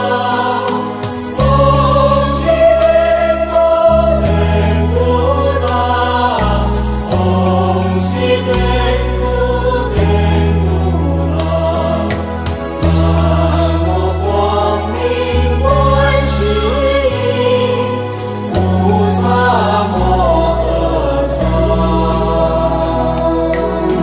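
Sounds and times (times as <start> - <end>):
sustained bass notes: 0.0 - 24.0
voices singing devotional song: 0.0 - 24.0.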